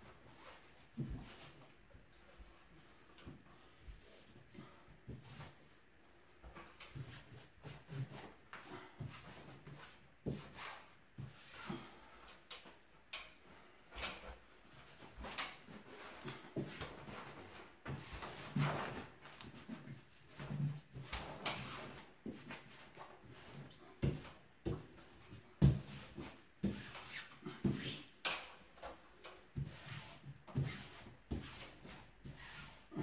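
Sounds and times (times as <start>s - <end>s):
wallpaper rustling and crinkling: 6.3s - 33.0s.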